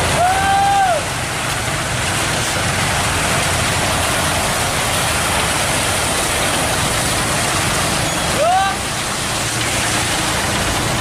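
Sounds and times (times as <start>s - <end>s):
dense rushing noise: 0.0s - 11.0s
diesel engine running: 0.0s - 11.0s.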